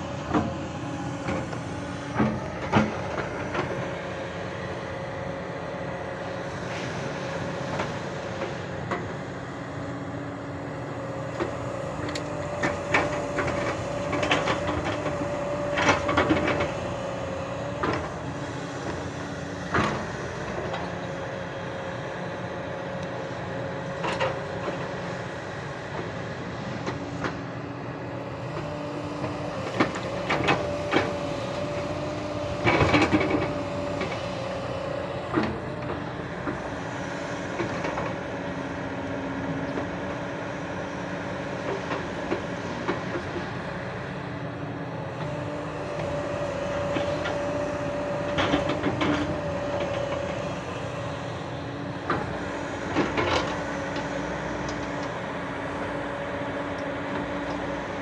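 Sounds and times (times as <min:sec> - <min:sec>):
excavator diesel engine whining: 0:00.0 - 0:58.0.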